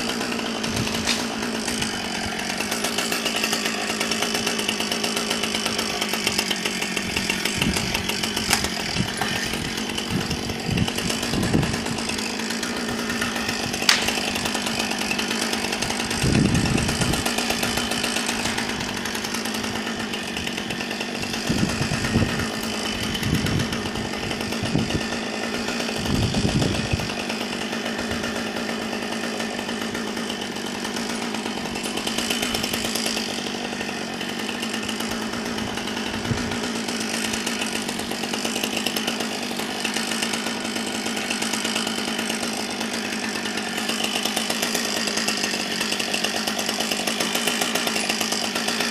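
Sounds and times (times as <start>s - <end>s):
chainsaw running: 0.0s - 48.9s.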